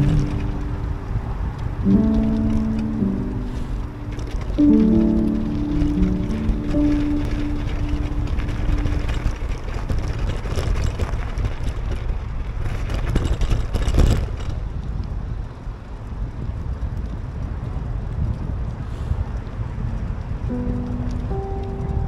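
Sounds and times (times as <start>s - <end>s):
crackling: 0.0s - 22.0s
wind buffeting microphone: 0.0s - 22.0s.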